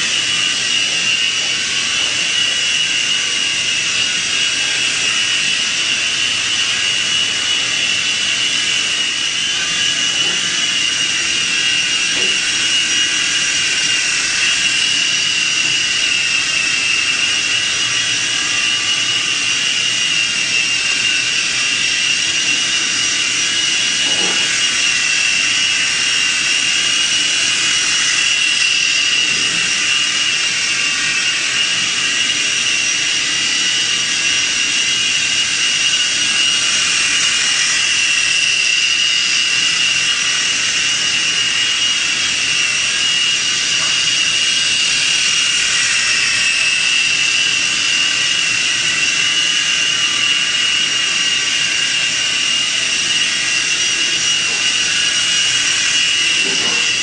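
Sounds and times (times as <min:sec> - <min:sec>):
toy helicopter motor whine: 0:00.0 - 0:57.0.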